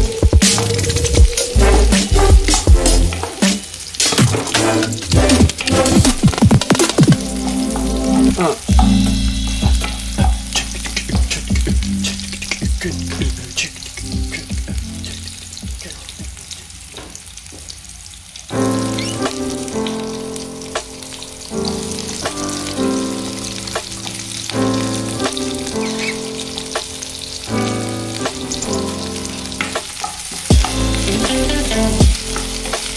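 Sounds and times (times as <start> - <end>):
background music: 0.0 - 16.0, 18.6 - 32.9
garlic sizzling in hot oil: 0.0 - 32.9.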